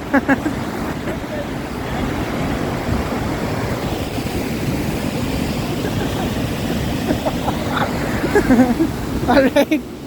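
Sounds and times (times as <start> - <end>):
fast river current: 0.0 - 10.0
waterfall rushing: 0.0 - 10.0.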